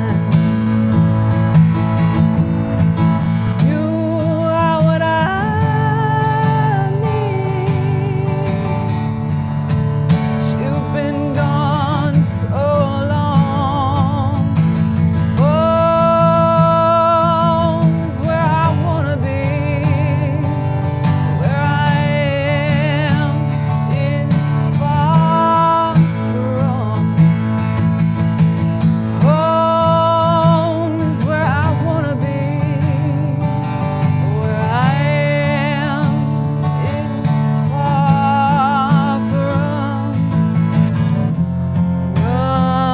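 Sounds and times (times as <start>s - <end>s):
acoustic guitar strumming: 0.0s - 42.9s
woman singing country song: 0.0s - 42.9s.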